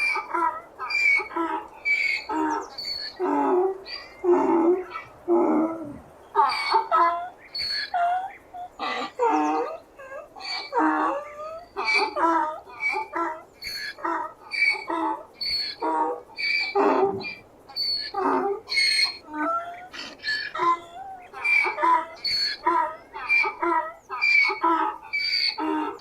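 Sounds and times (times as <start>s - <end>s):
donkey braying: 0.0s - 26.0s.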